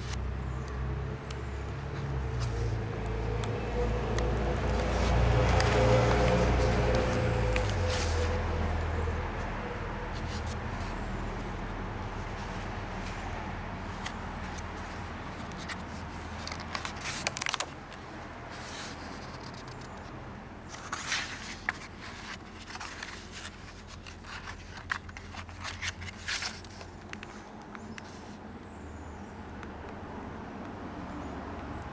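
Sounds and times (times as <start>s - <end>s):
stiff pages rustling: 0.0s - 8.4s, 10.1s - 28.4s.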